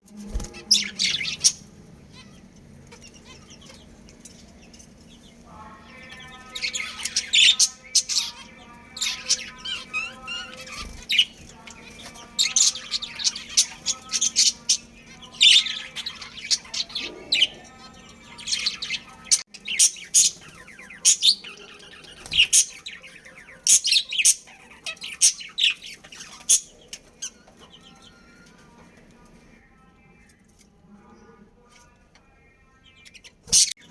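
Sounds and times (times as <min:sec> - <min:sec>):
chattering warble: 0:00.0 - 0:30.5
budgerigars chirping: 0:00.6 - 0:28.8, 0:32.9 - 0:33.9.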